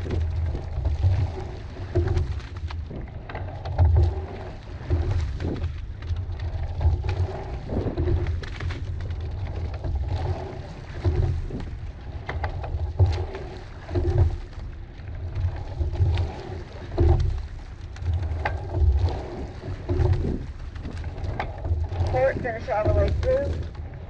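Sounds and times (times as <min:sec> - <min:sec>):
oars clicking and knocking: 0:00.0 - 0:24.0
water washing along hull: 0:00.0 - 0:24.0
wind rumbling on microphone: 0:00.0 - 0:24.0.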